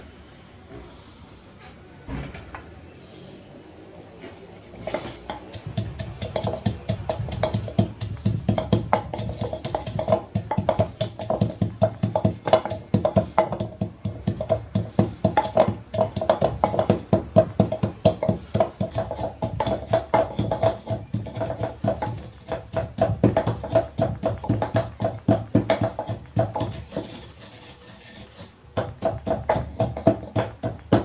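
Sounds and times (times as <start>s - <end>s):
wooden pestle pounding in mortar: 4.8s - 31.0s.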